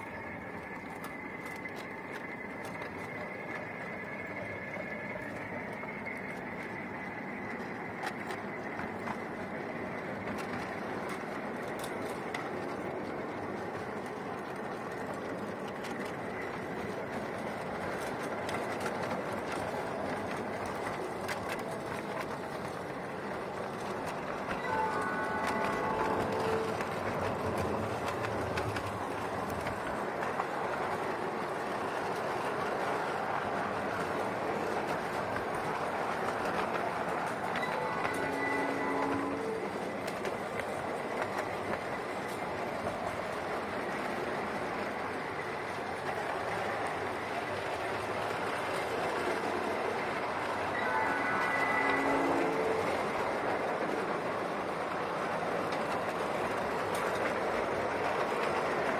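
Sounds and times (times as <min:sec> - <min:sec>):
clicks over rail joints: 0:00.0 - 0:58.9
train wheels rumbling: 0:00.0 - 0:58.9.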